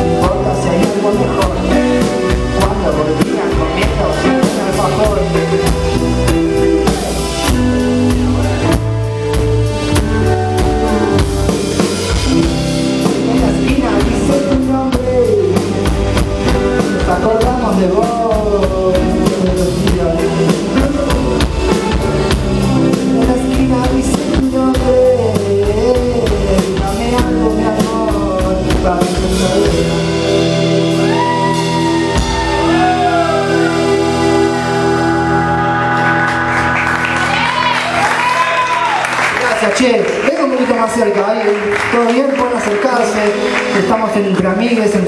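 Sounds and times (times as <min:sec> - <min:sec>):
drum kit: 0:00.0 - 0:45.0
live rock band playing: 0:00.0 - 0:45.0.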